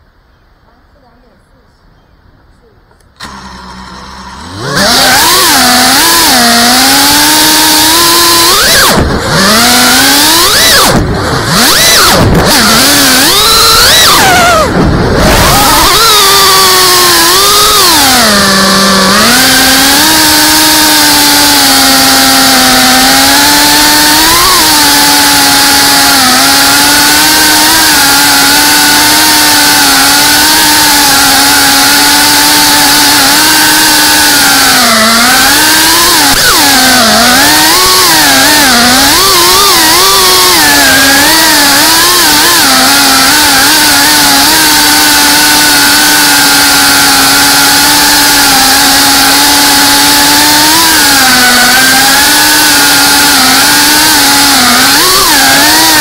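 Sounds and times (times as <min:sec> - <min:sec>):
quadcopter motors whining: 0:02.9 - 0:56.0.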